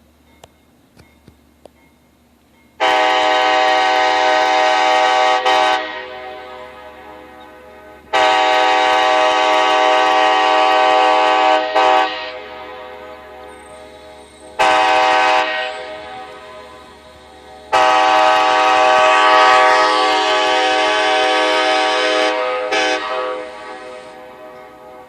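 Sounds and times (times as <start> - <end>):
locomotive air horn blasts: 2.8 - 13.5, 14.5 - 25.0.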